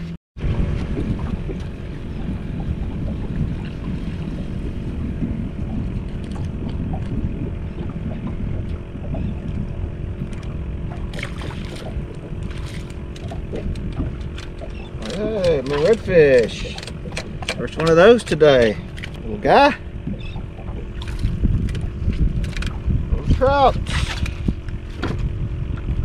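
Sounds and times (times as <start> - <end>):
faint steady hum: 0.4 - 26.0
wind buffeting microphone: 0.4 - 26.0.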